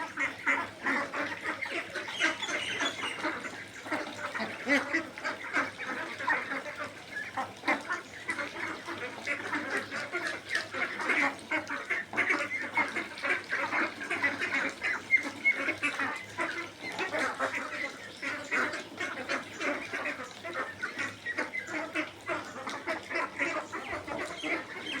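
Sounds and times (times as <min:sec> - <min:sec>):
flock of ducks quacking: 0:00.0 - 0:25.0.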